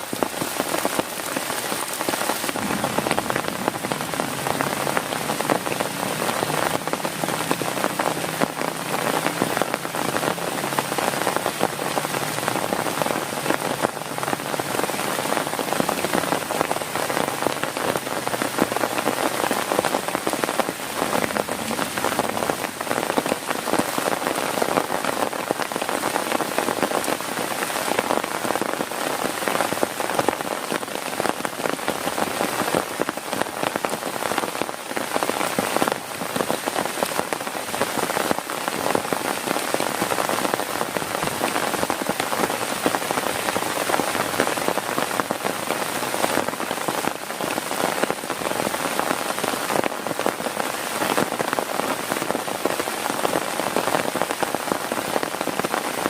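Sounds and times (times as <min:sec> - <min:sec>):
heavy rain on a tent: 0:00.0 - 0:56.0.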